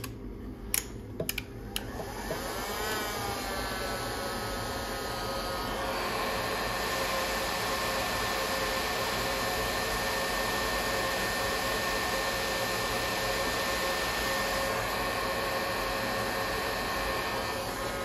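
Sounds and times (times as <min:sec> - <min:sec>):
heat gun blowing air: 0:01.9 - 0:18.0.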